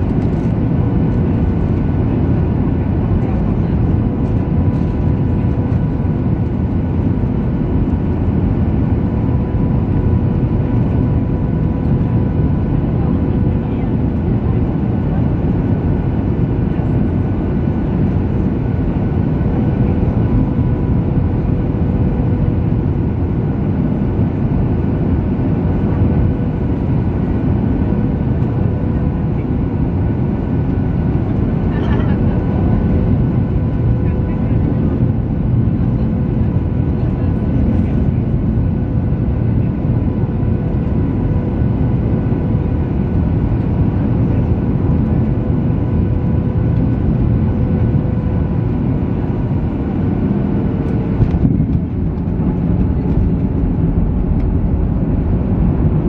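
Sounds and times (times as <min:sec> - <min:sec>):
jet engine cabin roar: 0:00.0 - 0:56.0.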